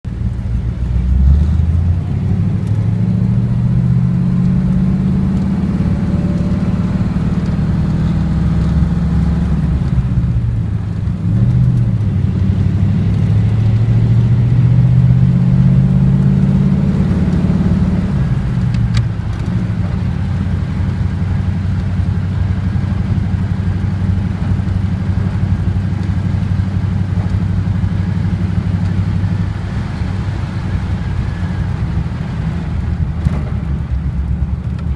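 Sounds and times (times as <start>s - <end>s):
antique car engine running: 0.1s - 34.9s.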